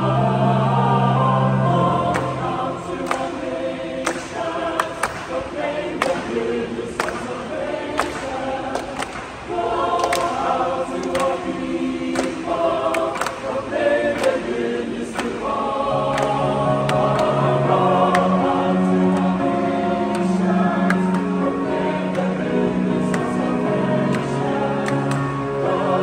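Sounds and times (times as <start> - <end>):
choir singing a hymn: 0.0 - 26.0
low men's voices singing: 0.0 - 26.0.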